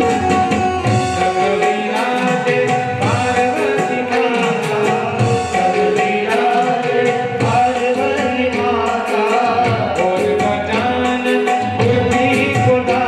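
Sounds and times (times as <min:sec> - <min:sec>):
devotional singing: 0:00.0 - 0:13.0
hand drum: 0:00.0 - 0:13.0.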